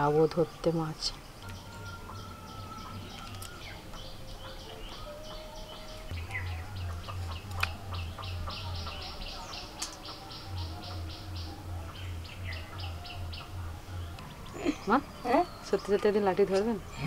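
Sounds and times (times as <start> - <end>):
birds chirping: 0.0 - 17.0
low pulsing hum: 2.4 - 17.0.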